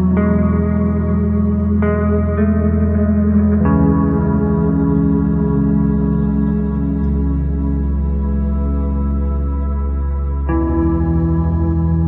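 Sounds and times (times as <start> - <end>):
sustained ambient chord: 0.0 - 12.0.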